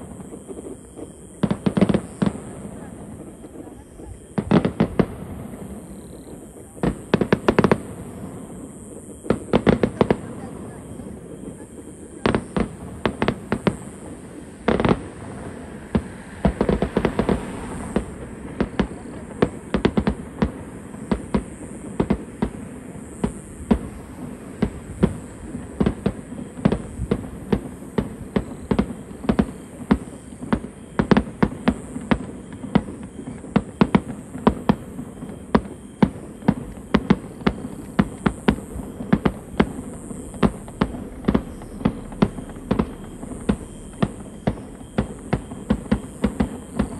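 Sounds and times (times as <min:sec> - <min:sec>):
fireworks bangs and pops: 0:00.0 - 0:46.9.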